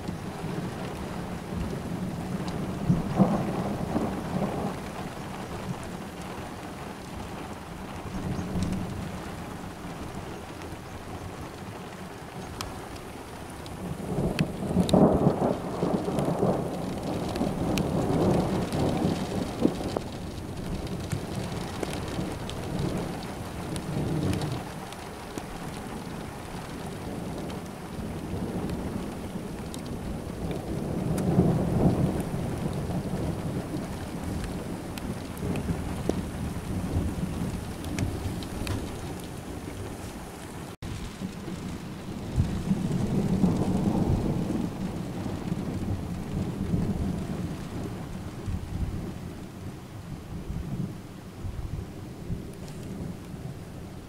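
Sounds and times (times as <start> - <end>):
raindrops ticking: 0.0 - 49.1, 52.3 - 53.4
steady rain: 0.0 - 54.0
thunder rumbling: 0.0 - 54.0.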